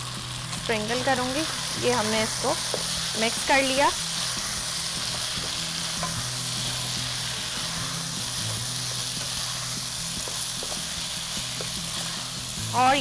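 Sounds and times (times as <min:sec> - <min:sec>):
pasta sizzling in a pot: 0:00.0 - 0:13.0.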